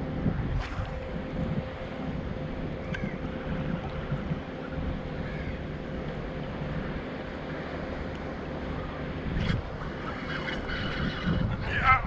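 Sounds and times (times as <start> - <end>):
wind on microphone: 0.0 - 7.1, 8.8 - 12.0
faint steady hum: 0.0 - 12.0.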